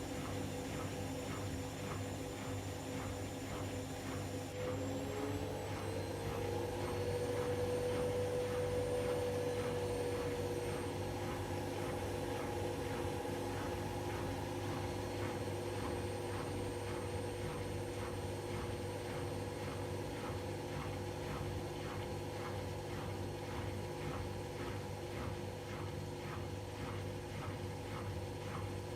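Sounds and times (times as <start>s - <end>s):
washing machine motor whine: 0.0s - 28.9s.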